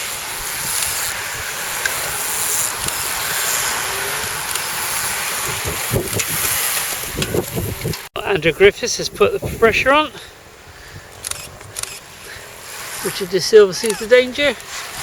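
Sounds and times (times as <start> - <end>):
wind blowing across microphone: 0.0 - 13.3.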